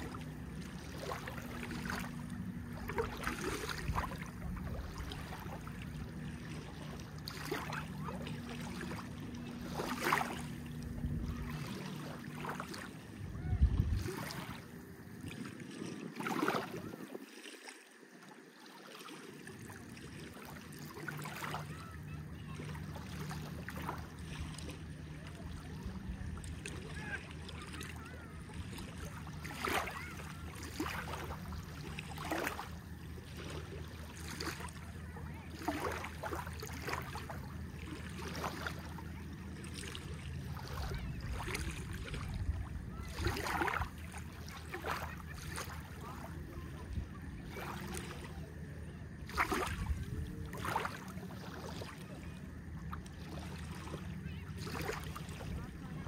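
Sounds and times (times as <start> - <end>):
steady low hum: 0.0 - 16.1, 19.4 - 56.0
small waves lapping: 0.0 - 56.0.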